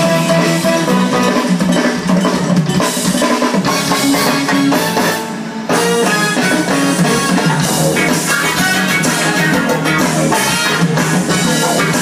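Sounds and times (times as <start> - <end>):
live band music over speakers: 0.0 - 12.0.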